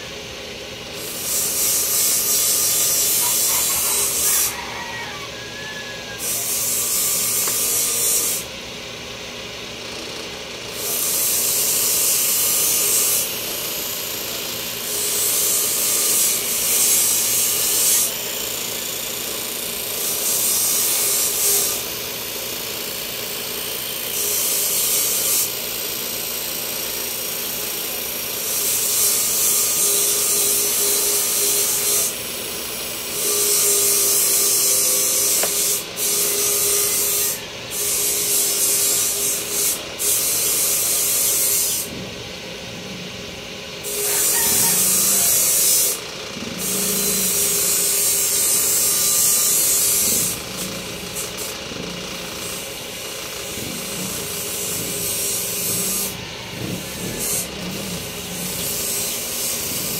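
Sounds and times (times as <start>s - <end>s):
electric grinder humming: 0.0s - 8.6s, 9.3s - 42.2s, 42.8s - 59.9s
grinding hiss: 0.9s - 8.5s, 9.9s - 59.9s.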